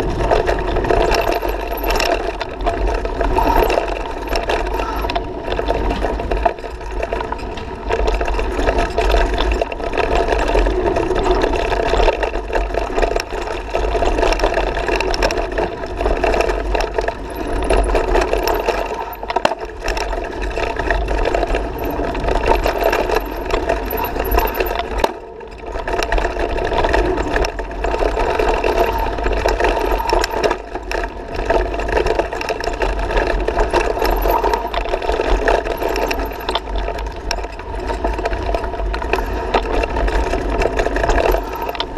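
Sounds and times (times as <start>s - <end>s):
bike rattling over bumps: 0.0s - 41.9s.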